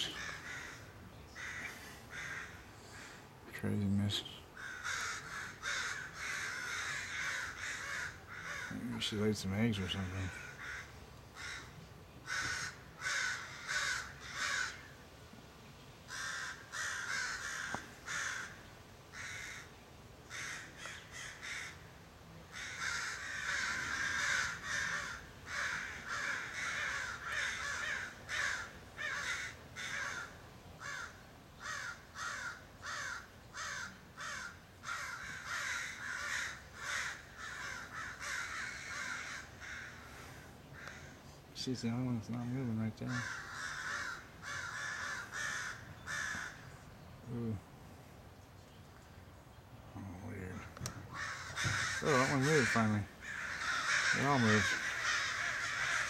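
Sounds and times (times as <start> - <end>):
crows cawing: 0.0 - 3.4, 4.1 - 15.0, 16.1 - 21.9, 22.5 - 41.4, 43.0 - 46.8, 50.0 - 56.0.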